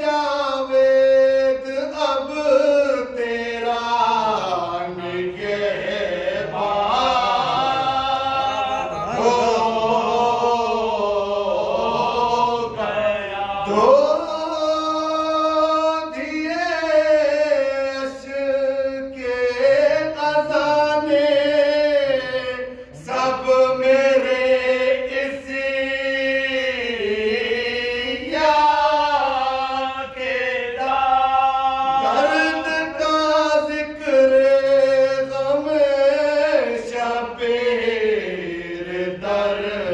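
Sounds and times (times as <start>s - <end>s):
male voices chanting: 0.0s - 39.9s.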